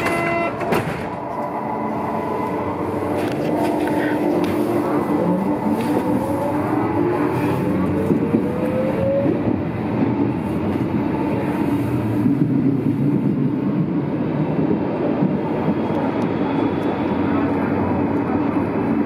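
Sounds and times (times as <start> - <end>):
electric train drive whine: 0.0 - 19.0
wheels rumbling on rails: 0.0 - 19.0.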